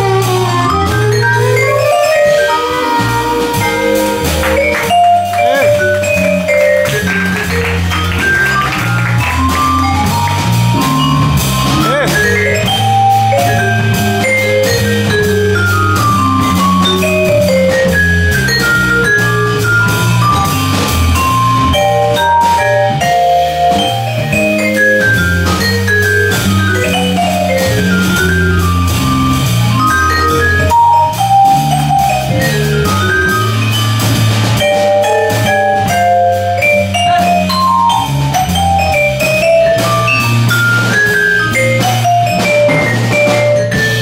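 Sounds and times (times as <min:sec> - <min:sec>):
bass line: 0:00.0 - 0:44.0
drum kit with cymbals: 0:00.0 - 0:44.0
vibraphone solo: 0:00.0 - 0:44.0.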